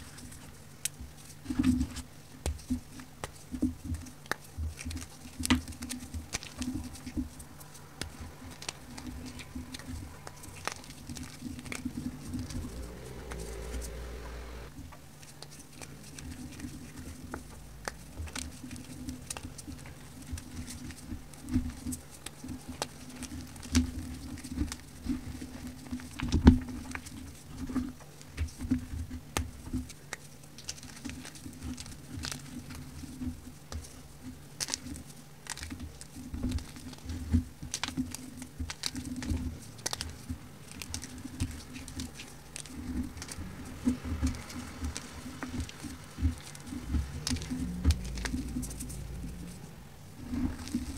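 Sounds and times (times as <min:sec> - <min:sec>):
fingers crushing powder blocks: 0:00.0 - 0:14.0, 0:15.2 - 0:50.9.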